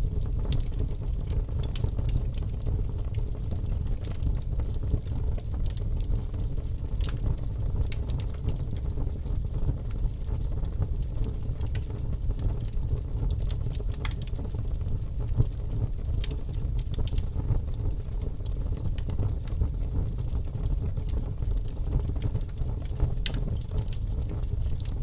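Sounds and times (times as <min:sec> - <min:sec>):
fire crackling in fireplace: 0:00.0 - 0:25.0.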